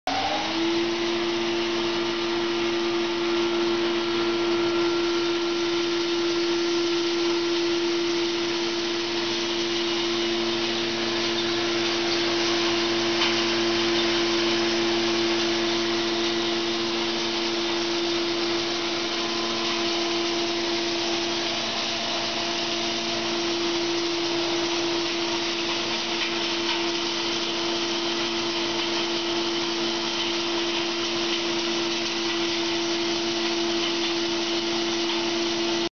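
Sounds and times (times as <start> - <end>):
hammer mill whirring: 0.1 - 35.9.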